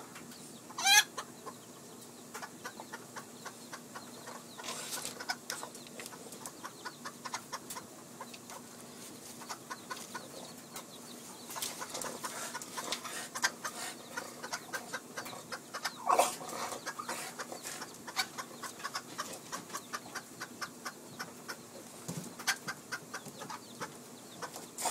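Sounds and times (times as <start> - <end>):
hen clucking: 0.0 - 24.9.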